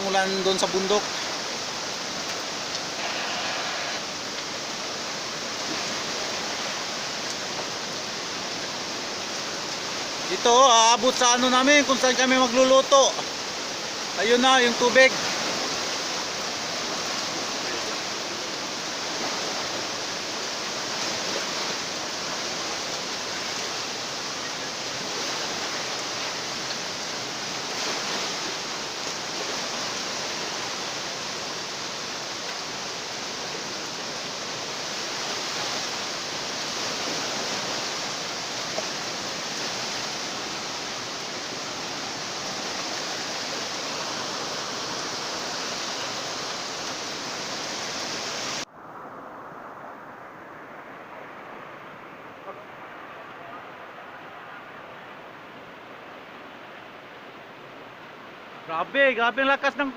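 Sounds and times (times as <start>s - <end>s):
flood water rushing: 0.0s - 59.9s.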